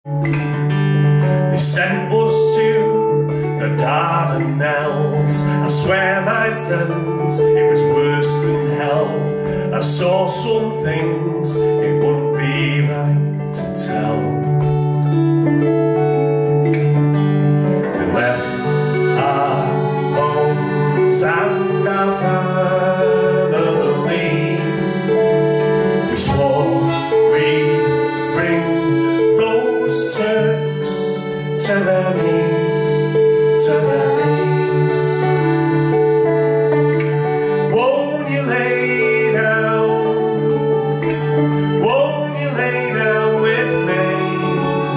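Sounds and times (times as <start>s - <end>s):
accordion chords: 0.1s - 44.9s
acoustic guitar: 0.1s - 44.9s
plucked banjo: 0.1s - 44.9s.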